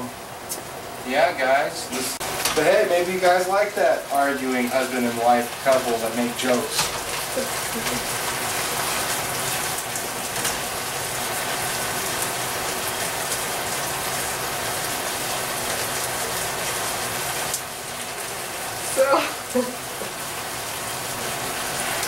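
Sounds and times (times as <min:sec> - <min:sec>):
chicken sizzling in a wok: 0:00.0 - 0:22.0.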